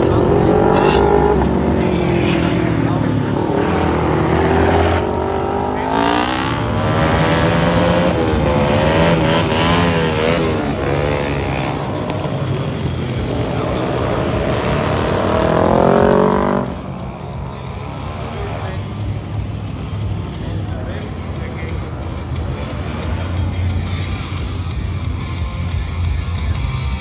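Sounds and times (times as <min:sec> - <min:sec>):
truck engine revving past: 0:00.0 - 0:24.8
motorcycle engines revving past: 0:00.0 - 0:27.0.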